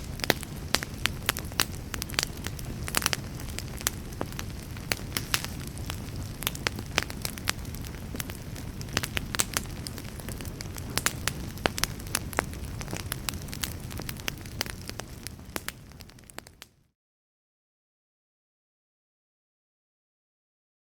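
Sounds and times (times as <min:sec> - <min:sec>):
wood fire crackling and popping: 0:00.0 - 0:16.8.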